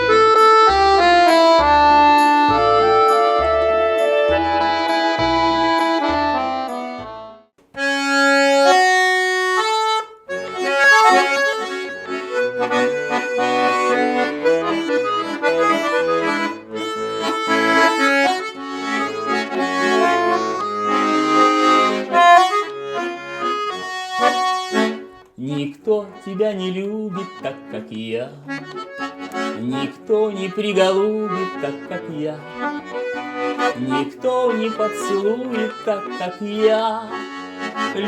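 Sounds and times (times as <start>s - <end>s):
button accordion playing: 0.0s - 38.0s.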